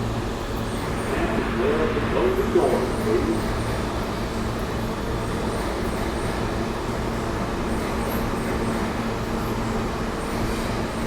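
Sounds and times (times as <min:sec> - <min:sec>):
subway car hum and rumble: 0:00.0 - 0:11.0.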